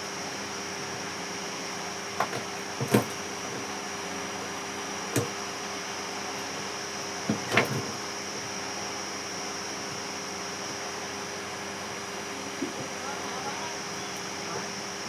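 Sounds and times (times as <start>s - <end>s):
steady hum with high whine: 0.0s - 15.0s.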